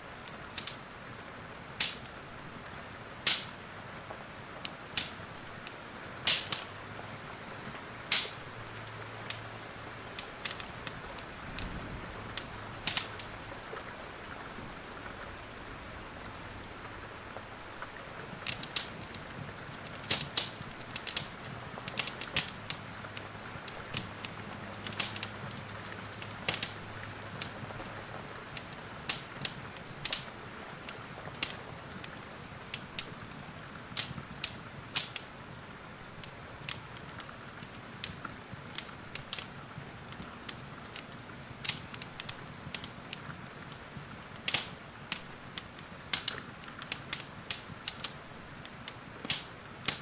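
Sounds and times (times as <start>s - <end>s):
rain hiss: 0.0s - 50.0s
wood fire crackling and popping: 0.1s - 15.4s, 16.2s - 50.0s.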